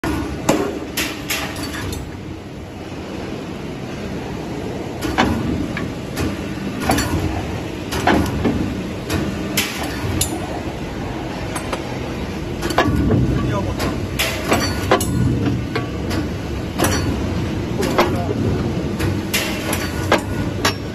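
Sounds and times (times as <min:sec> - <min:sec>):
tube-punching machine humming: 0:00.0 - 0:20.9.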